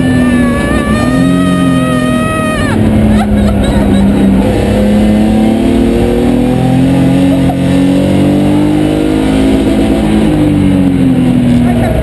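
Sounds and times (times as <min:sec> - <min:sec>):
race car engine from inside cabin: 0:00.0 - 0:12.0.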